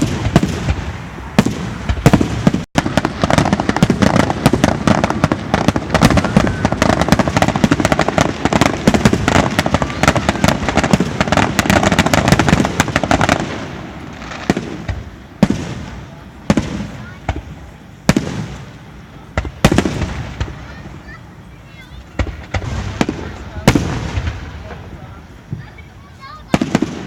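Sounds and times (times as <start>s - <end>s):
fireworks booms with echo: 0.0s - 27.0s
fireworks crackling and banging: 0.0s - 27.0s.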